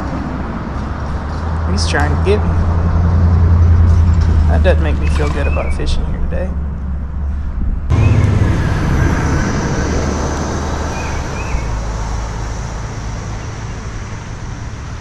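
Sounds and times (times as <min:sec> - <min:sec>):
fire engine driving past: 0:00.0 - 0:15.0.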